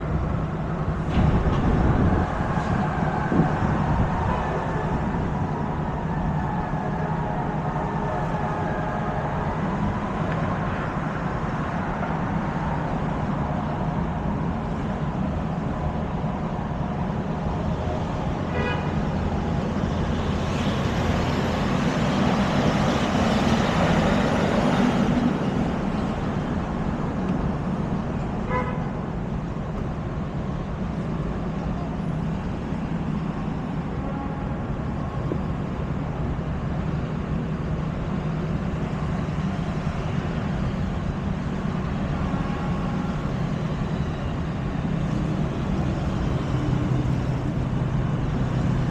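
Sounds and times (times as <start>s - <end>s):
street traffic engines and tyres: 0.0s - 48.9s.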